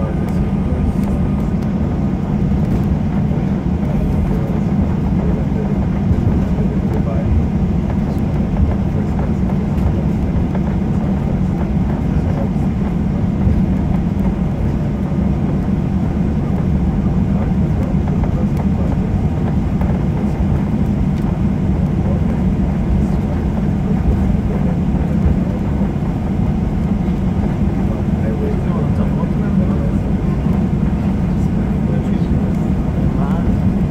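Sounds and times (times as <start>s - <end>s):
jet engines rumbling: 0.0s - 33.9s
wheels rolling on taxiway: 0.0s - 33.9s.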